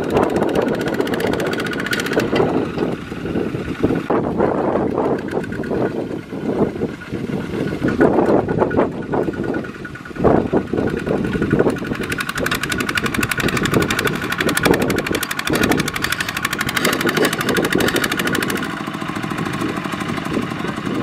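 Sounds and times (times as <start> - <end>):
diesel engine knocking under load: 0.0 - 21.0.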